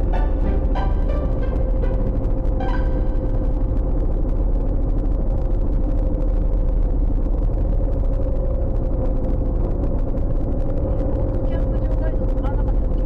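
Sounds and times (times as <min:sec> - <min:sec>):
steady hum: 0:00.0 - 0:13.0
vehicle engine rumble: 0:00.0 - 0:13.0.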